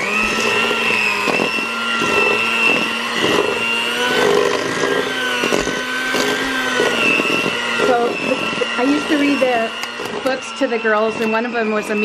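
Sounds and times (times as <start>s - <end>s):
electric hand mixer whine: 0.0s - 12.0s.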